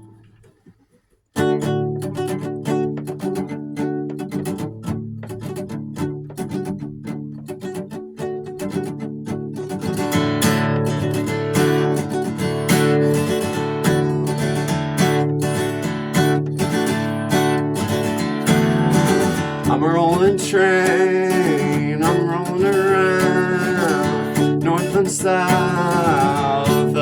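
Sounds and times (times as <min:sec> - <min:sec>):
acoustic guitar strumming chords: 0:01.4 - 0:27.0.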